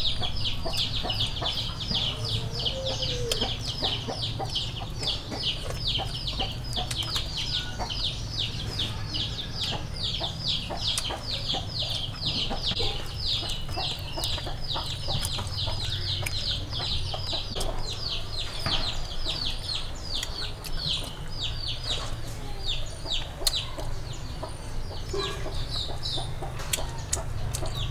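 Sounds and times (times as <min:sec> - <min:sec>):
chicks peeping: 0:00.0 - 0:27.9.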